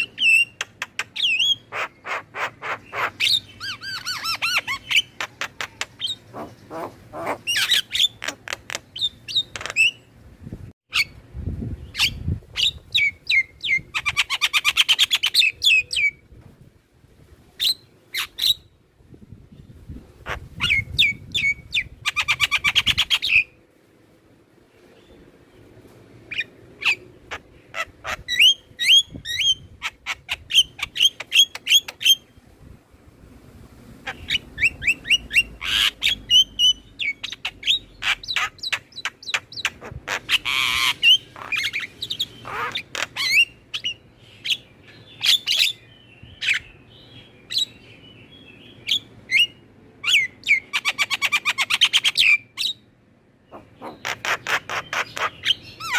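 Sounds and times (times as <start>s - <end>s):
bird chirping and squawking: 0.0s - 10.1s, 11.8s - 16.2s, 20.2s - 23.6s, 26.3s - 32.3s, 34.0s - 55.9s.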